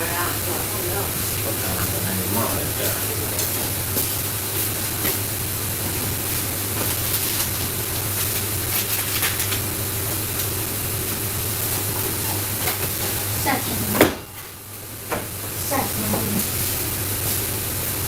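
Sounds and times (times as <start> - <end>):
constant low hum: 0.0 - 18.0
cooking hiss: 0.0 - 18.0.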